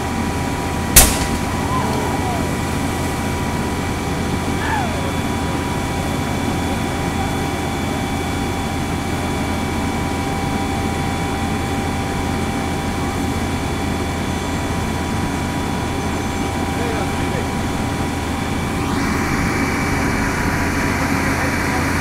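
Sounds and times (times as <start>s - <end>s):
fire engine engine droning: 0.0s - 22.0s.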